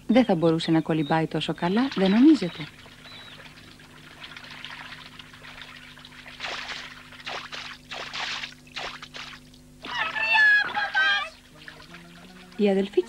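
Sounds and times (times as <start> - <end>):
low steady hum: 0.0 - 13.0
water trickling: 1.4 - 9.8, 10.8 - 13.0
cartoon water splashes: 1.6 - 13.0.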